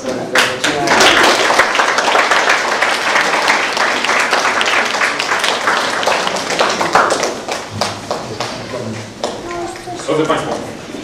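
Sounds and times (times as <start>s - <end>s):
audience applauding: 0.4s - 10.7s.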